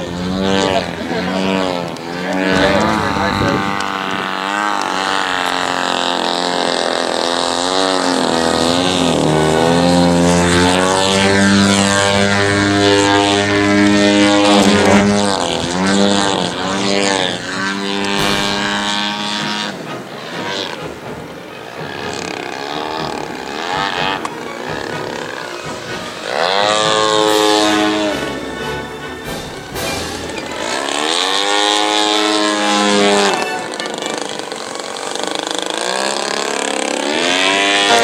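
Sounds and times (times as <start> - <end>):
model airplane engine and propeller: 0.0 - 38.0.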